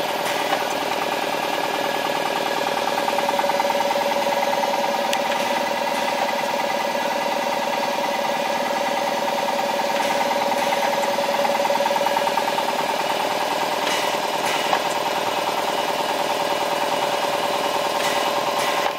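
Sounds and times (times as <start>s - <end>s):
crimping machine pulsing hum: 0.0s - 18.9s.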